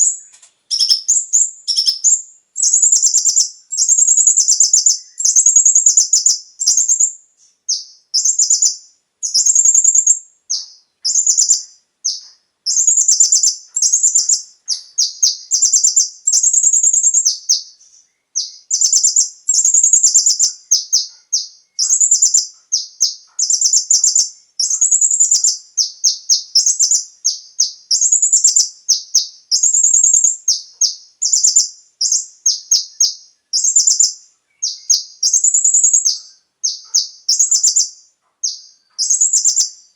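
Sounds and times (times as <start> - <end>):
sunbird singing rapid chirps: 0.0 - 39.9.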